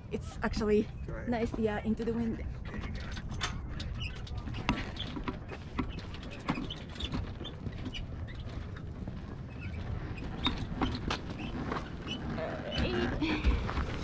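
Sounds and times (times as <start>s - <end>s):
low wind rumble on microphone: 0.0s - 14.0s
hang glider frame clicking and creaking: 0.4s - 14.0s.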